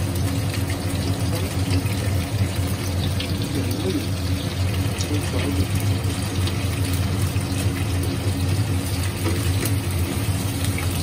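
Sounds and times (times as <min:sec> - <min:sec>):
fish sizzling in oil: 0:00.0 - 0:11.0
range hood fan humming: 0:00.0 - 0:11.0.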